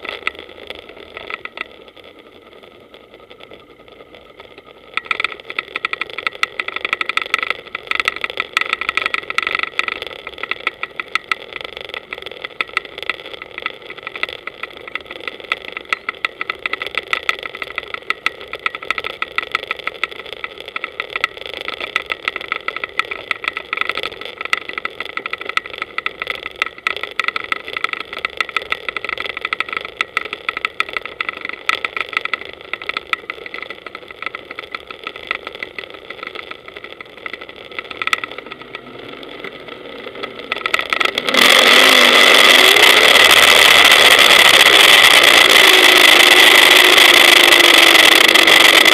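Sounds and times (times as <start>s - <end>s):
dense rapid crackling: 0.0s - 48.9s.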